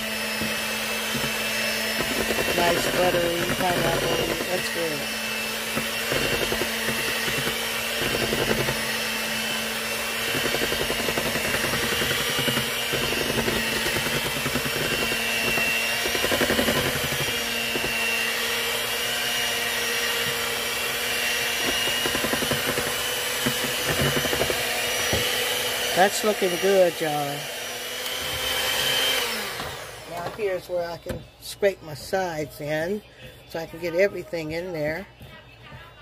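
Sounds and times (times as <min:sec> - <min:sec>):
electric hand mixer running: 0:00.0 - 0:35.0.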